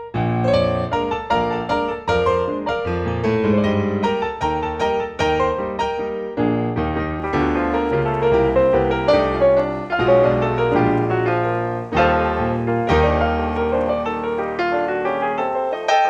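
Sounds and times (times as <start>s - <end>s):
slow gentle solo piano piece: 0.0s - 16.0s.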